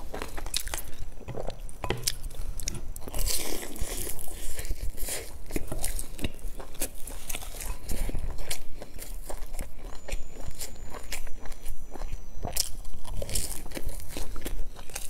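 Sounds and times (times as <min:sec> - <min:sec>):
crunchy food chewing: 0:00.0 - 0:15.0.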